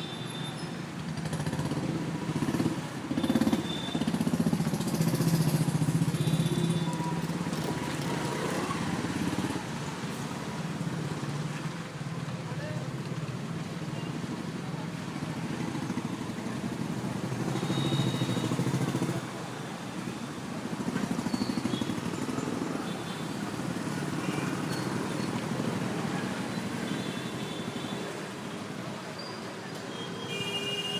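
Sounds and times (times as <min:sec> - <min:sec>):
passing vehicle engines and tyres: 0:00.0 - 0:29.9.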